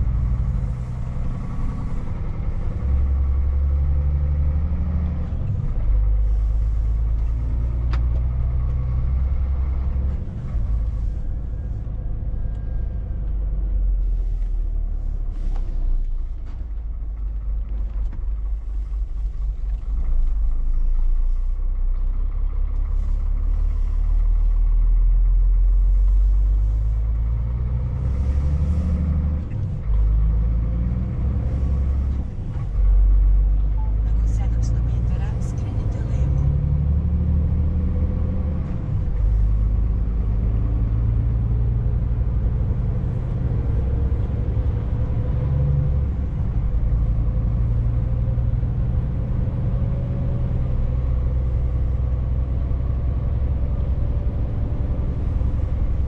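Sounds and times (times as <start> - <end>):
truck engine shifting gears: 0.0 - 56.0.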